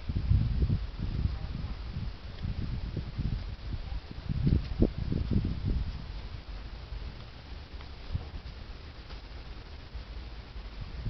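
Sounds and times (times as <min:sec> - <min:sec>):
soft steady hiss: 0:00.0 - 0:11.0.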